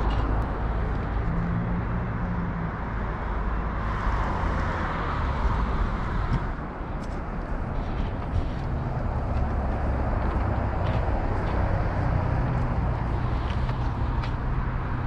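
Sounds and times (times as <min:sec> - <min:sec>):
engine low hum: 0:00.0 - 0:15.0
road traffic rumble: 0:00.0 - 0:15.0.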